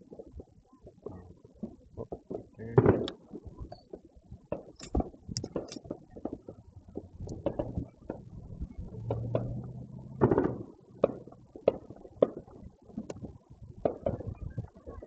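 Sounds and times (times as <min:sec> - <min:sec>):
distant fireworks bangs and pops: 0:00.0 - 0:15.0
low steady hum: 0:00.4 - 0:15.0.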